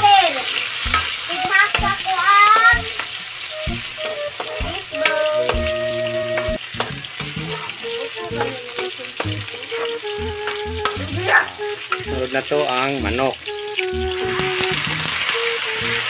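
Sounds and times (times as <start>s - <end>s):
onions sizzling in hot oil: 0.0s - 16.0s
steady pitched tones: 0.9s - 16.0s.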